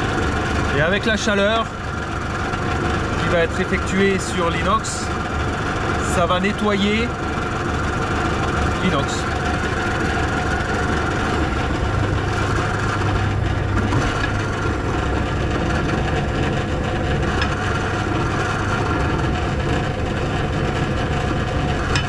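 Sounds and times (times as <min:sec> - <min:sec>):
drill press motor running: 0:00.0 - 0:22.0.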